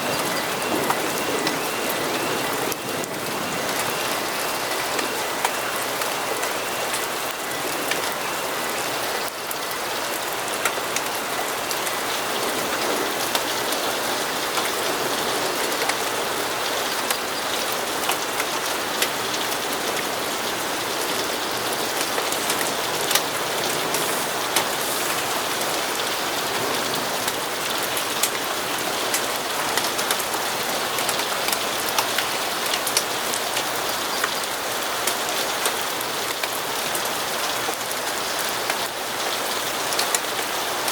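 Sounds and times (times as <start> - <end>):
raindrops ticking close by: 0.0 - 40.9
steady rainfall: 0.0 - 40.9.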